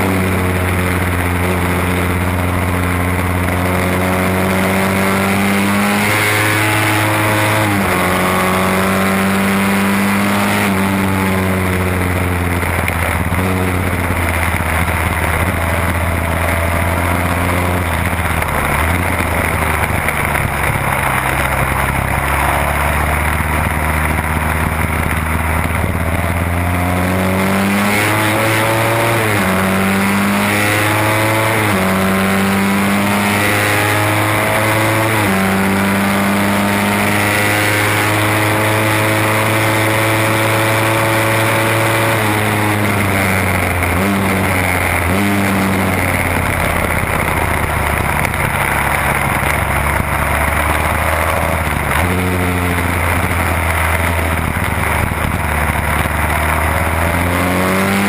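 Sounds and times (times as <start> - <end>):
racing motorcycle engine: 0.0 - 58.0.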